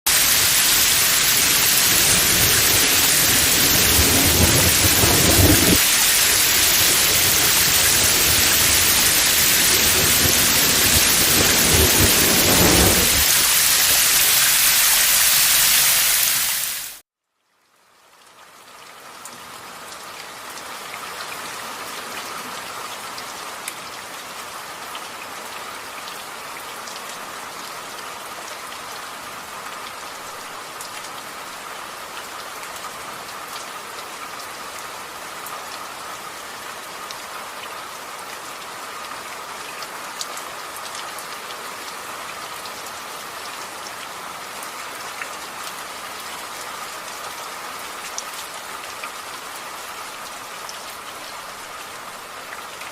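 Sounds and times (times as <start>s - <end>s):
steady rain hiss: 0.1s - 17.0s, 19.4s - 52.9s.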